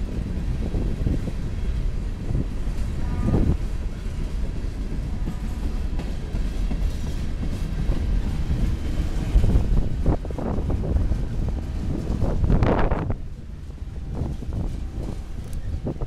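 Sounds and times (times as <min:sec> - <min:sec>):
freight train wheels rumbling and clacking: 0:00.0 - 0:16.0.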